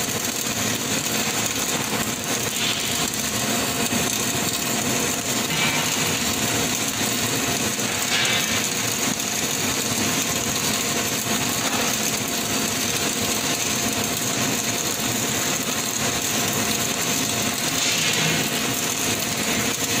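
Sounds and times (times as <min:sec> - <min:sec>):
welding arc hissing: 0:00.0 - 0:20.0.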